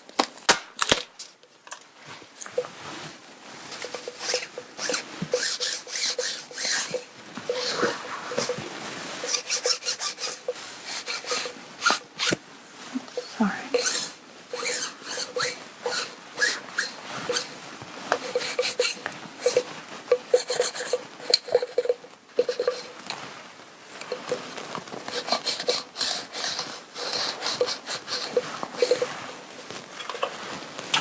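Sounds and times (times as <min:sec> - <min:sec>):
lint roller rolling over fabric: 0:02.0 - 0:31.0.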